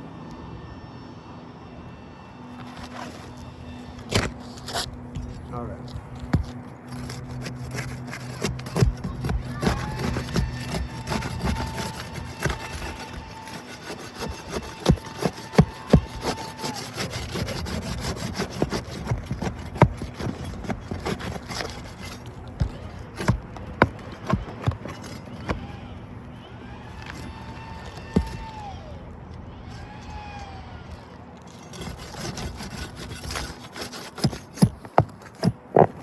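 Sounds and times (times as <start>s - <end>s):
shingles scraping and rubbing: 2.6s - 28.7s, 31.4s - 36.0s.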